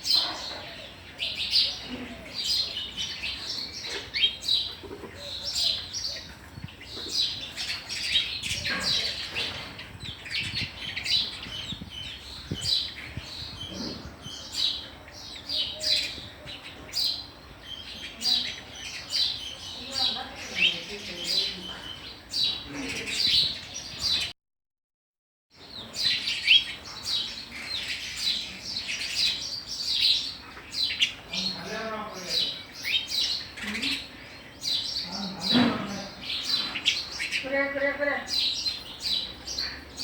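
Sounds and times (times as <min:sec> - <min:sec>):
sparrows chirping: 0:00.0 - 0:24.3, 0:25.6 - 0:40.0.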